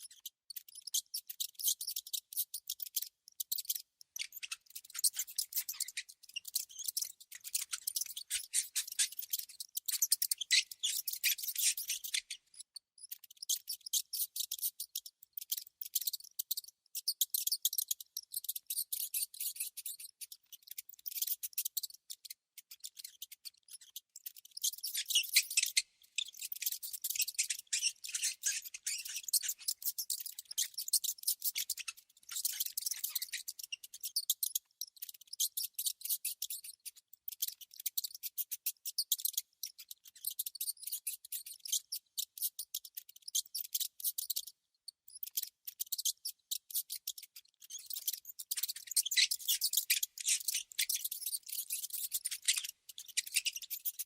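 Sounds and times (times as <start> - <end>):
rodents clicking and squeaking: 0.0 - 54.0.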